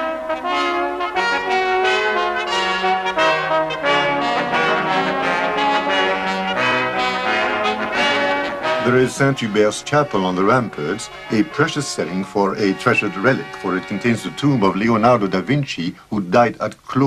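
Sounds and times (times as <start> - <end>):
brass playing slow chords: 0.0 - 16.0.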